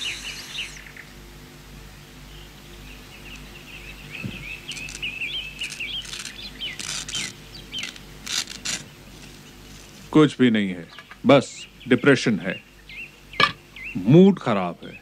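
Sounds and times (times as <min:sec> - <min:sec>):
small birds chirping: 0:00.0 - 0:01.3, 0:02.1 - 0:15.0.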